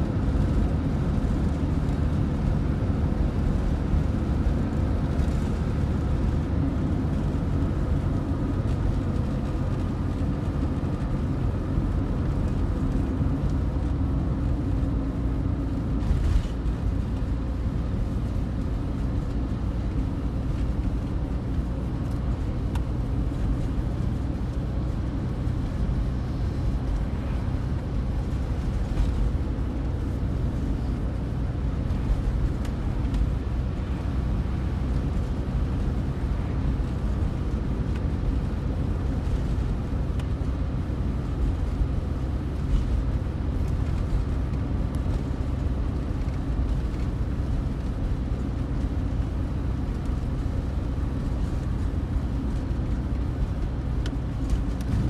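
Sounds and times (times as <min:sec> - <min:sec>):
car engine hum: 0:00.0 - 0:55.0
tyre and road noise: 0:00.0 - 0:55.0.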